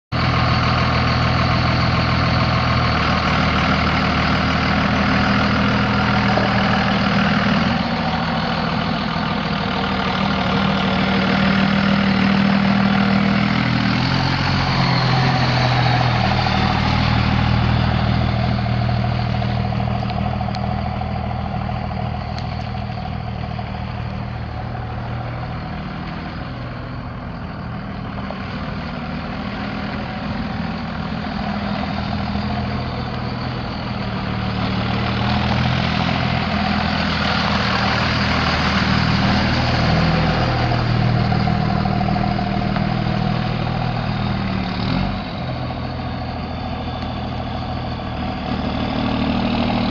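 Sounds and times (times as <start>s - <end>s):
diesel engine running: 0.1s - 49.9s.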